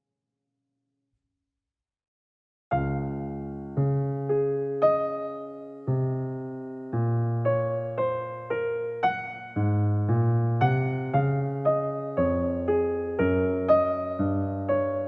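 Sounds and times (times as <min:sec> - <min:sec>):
gentle piano music: 0:02.7 - 0:15.0.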